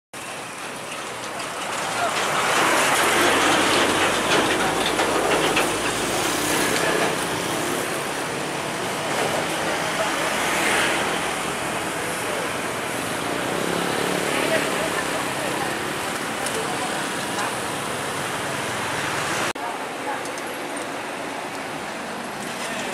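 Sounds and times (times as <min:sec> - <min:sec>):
road traffic passing: 0:00.2 - 0:22.9.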